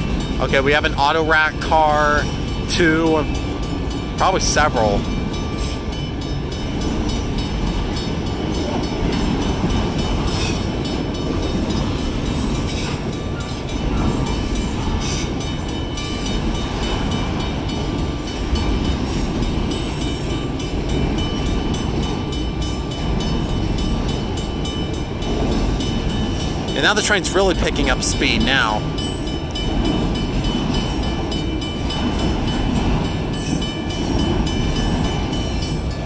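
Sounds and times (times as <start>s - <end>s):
crossing bell ringing: 0.0s - 36.0s
train wheels rumbling on rails: 0.0s - 36.0s.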